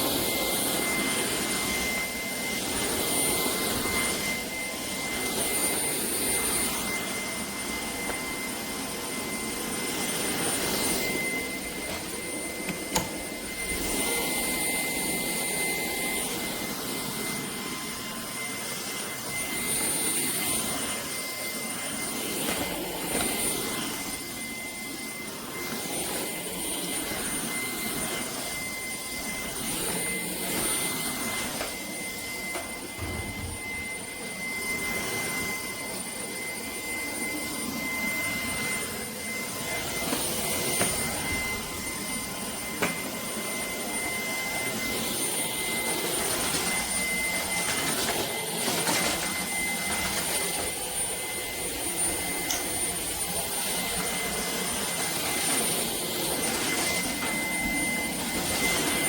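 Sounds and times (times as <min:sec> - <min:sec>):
stick vacuum running: 0:00.0 - 0:59.0.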